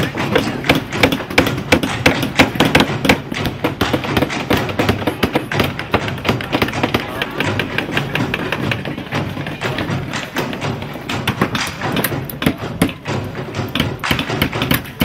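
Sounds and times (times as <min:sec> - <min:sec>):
hammers driving nails into wood: 0:00.0 - 0:15.0.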